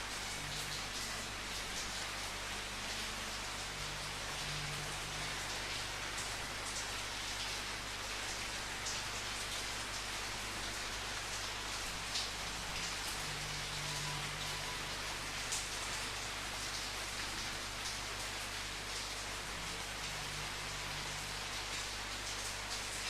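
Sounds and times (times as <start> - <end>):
steady rainfall hissing: 0.0 - 23.0.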